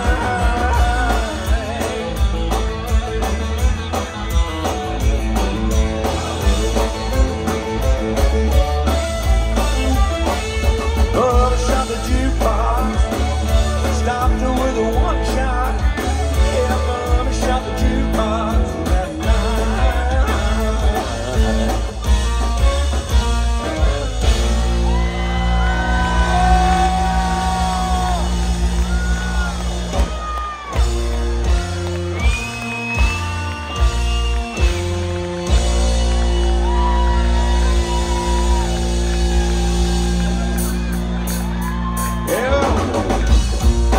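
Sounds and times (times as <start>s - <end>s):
live country band: 0.0s - 43.9s.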